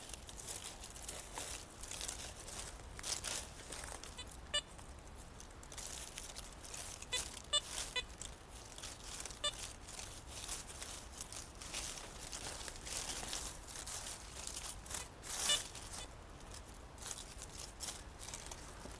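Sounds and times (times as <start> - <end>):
footsteps in tall grass: 0.0 - 18.9.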